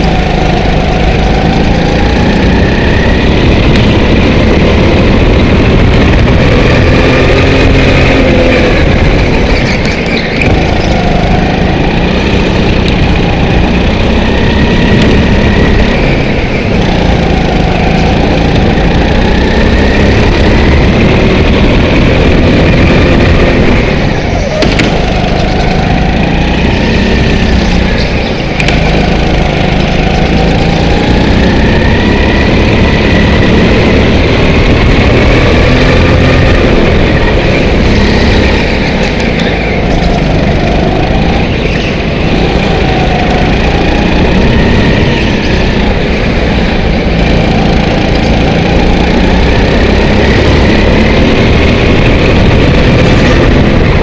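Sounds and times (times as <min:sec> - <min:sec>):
kart engine running hard: 0:00.0 - 0:54.0.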